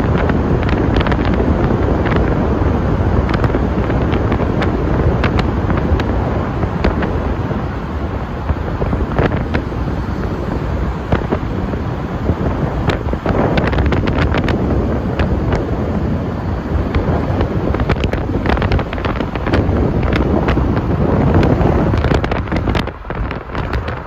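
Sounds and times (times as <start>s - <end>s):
road noise in tunnel: 0.0s - 24.0s
wind rushing over microphone: 0.0s - 24.0s.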